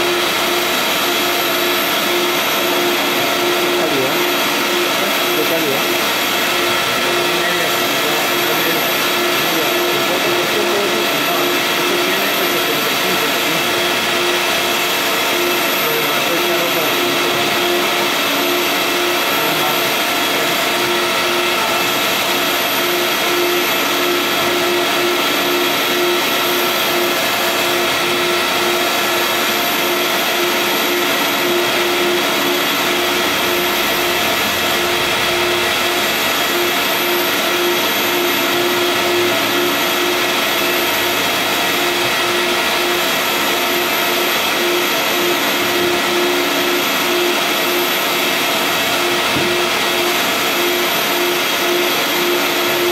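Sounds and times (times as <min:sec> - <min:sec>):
printer machine whir: 0:00.0 - 0:52.9
pulsing tone: 0:00.0 - 0:52.9.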